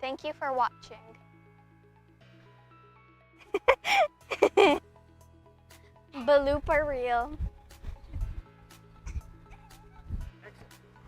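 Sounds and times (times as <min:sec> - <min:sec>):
faint music with held notes: 0:00.0 - 0:11.0.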